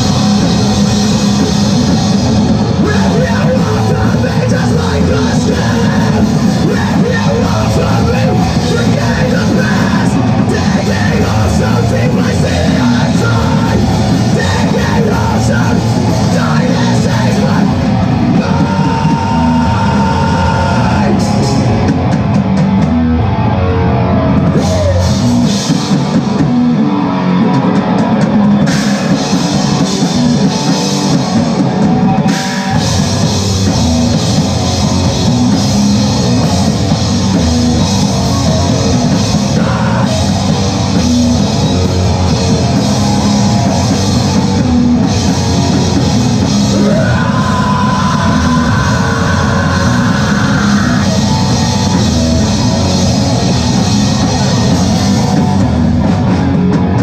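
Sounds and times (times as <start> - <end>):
distorted electric guitar: 0.0 - 57.0
drum kit: 0.0 - 57.0.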